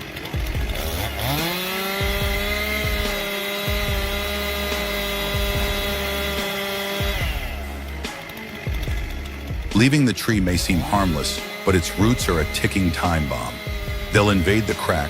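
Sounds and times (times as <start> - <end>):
chainsaw engine revving: 0.0 - 15.0.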